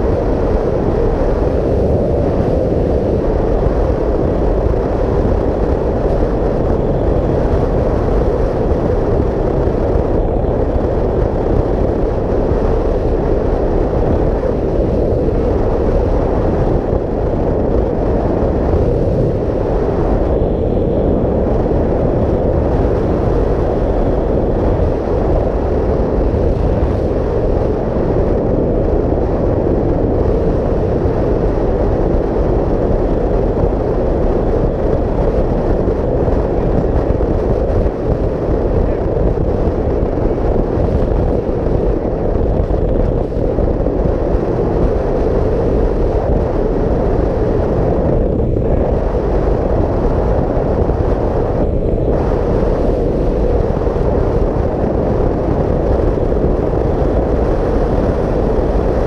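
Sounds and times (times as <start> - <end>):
loud wind rush over microphone: 0.0 - 59.0
motorcycle engine running: 0.0 - 59.0.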